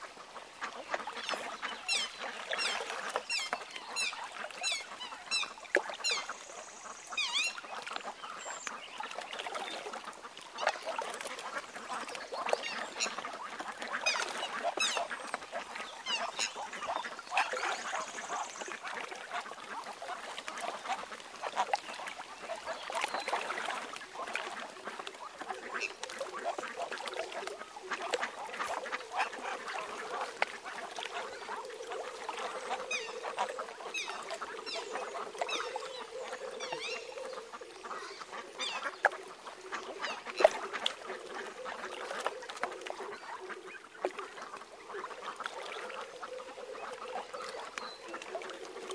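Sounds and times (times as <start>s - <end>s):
soft waterfowl calls: 0.0s - 48.9s
swans splashing and dabbling: 0.0s - 48.9s.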